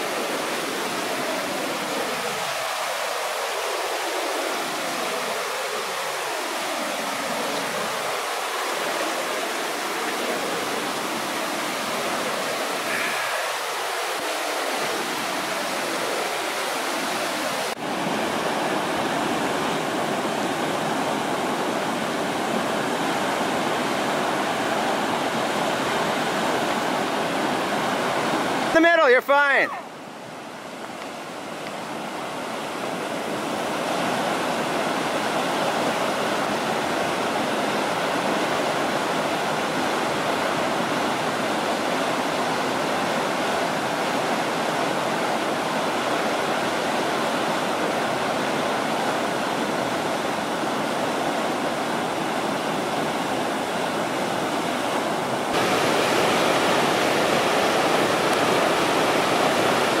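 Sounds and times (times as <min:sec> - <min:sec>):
river rapids rushing: 0:00.0 - 1:00.0.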